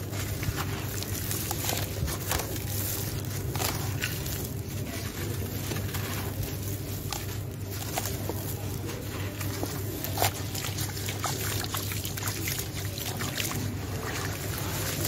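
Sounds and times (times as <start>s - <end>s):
cement chunks crunching in hands: 0.0s - 15.0s
crumbs pattering into a plastic tub: 0.0s - 15.0s.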